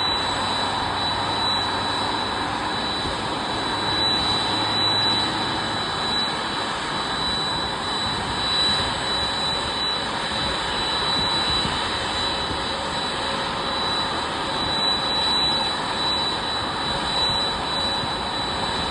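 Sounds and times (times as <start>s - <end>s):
high-pitched engine whine: 0.0s - 18.9s
jet engine roar: 0.0s - 18.9s.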